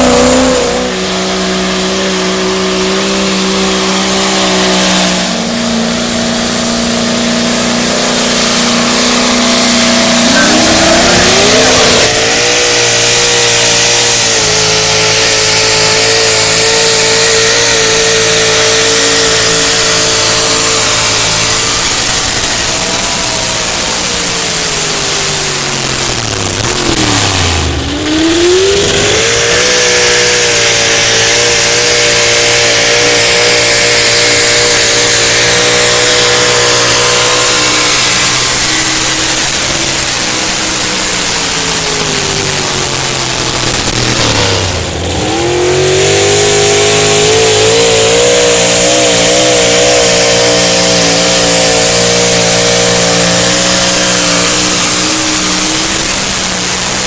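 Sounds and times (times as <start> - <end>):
truck engine revving under load: 0.0 - 57.0.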